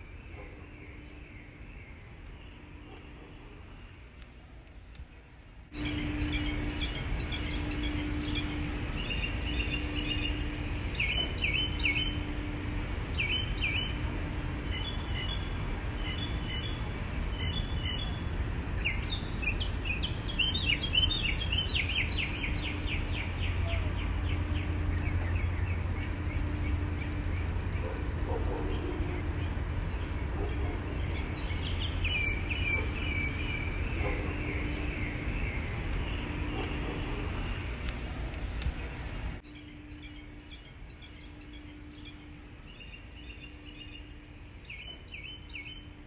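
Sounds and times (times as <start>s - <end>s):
songbirds chirping: 0.0s - 46.0s
steady low rumble: 0.0s - 46.0s.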